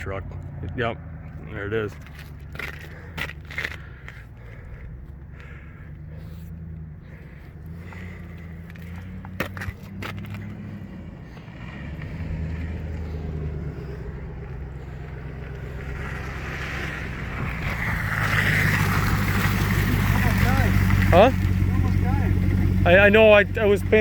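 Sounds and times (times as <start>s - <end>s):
pickup truck engine approaching: 0.0s - 24.0s.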